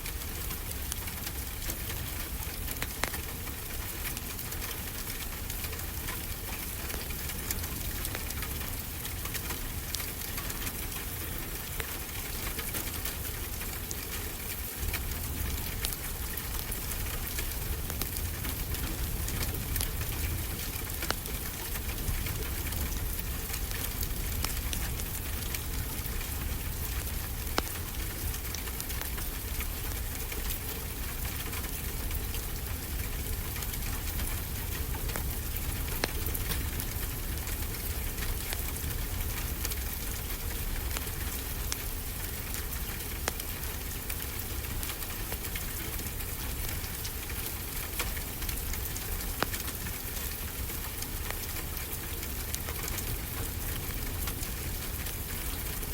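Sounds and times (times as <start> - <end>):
wood fire crackling and popping: 0.1 - 55.9
rain hissing: 5.8 - 55.9.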